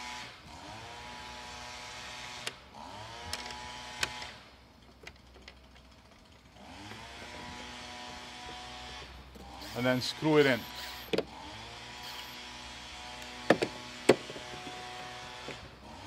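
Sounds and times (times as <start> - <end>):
leaf blower engine: 0.0 - 4.4, 6.5 - 16.0.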